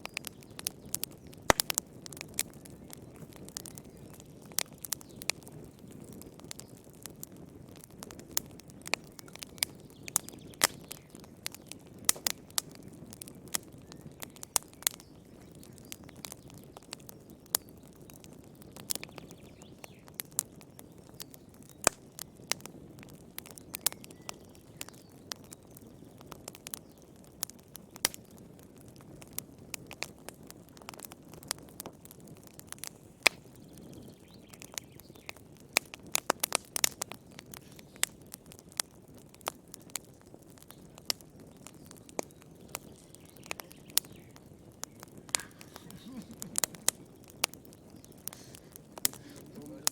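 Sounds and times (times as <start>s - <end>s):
rumble of flames: 0.0s - 49.9s
wood fire pops and snaps: 0.0s - 49.9s.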